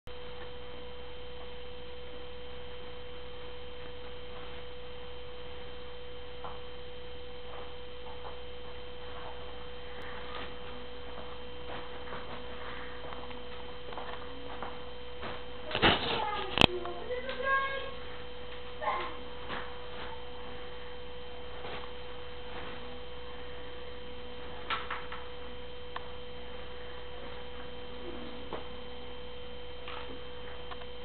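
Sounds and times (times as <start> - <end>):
steady electrical hum: 0.1 - 31.0.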